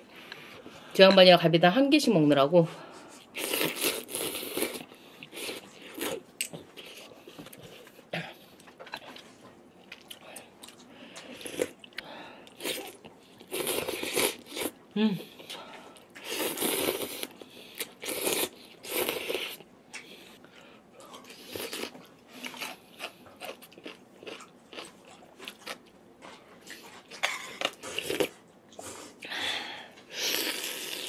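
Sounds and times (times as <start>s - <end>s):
person chewing food: 3.2s - 29.3s.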